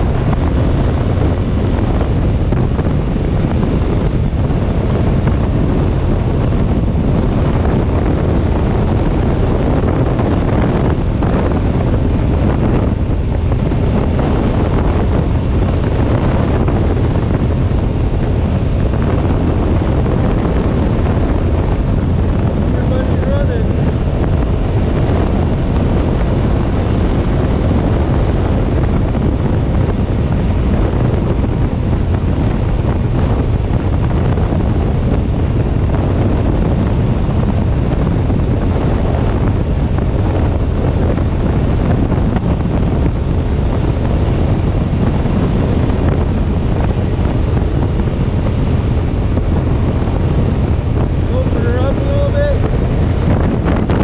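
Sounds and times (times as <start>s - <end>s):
heavy wind noise on microphone: 0.0s - 54.0s
motorcycle engine: 0.0s - 54.0s
road noise: 0.0s - 54.0s.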